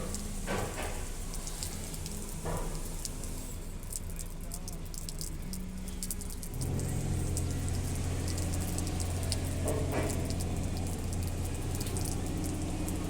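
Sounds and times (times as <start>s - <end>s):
car wash machinery hum: 0.0s - 13.0s
water spray spattering: 0.0s - 13.0s.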